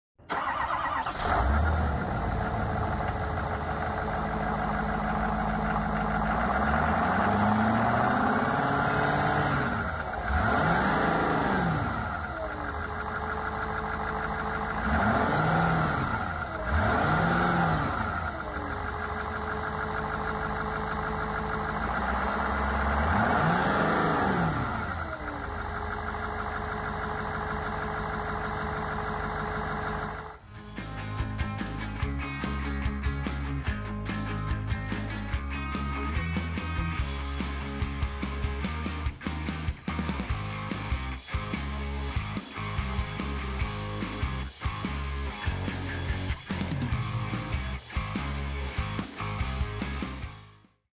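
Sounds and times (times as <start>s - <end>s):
diesel engine idling and revving: 0.2s - 50.4s.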